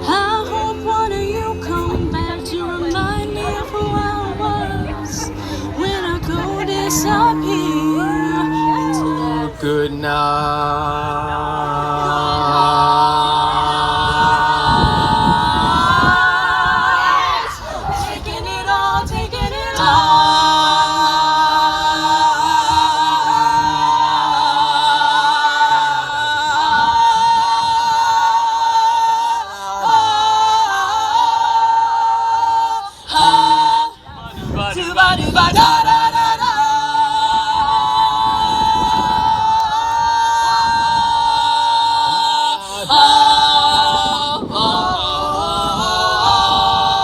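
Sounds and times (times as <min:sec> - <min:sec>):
choir singing held chords: 0:00.0 - 0:47.0.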